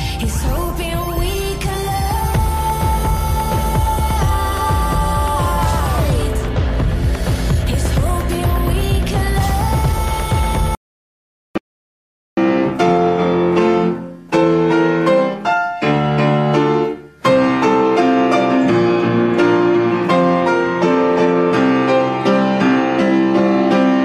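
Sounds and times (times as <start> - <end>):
piano music: 0.0 - 10.8, 12.4 - 24.0.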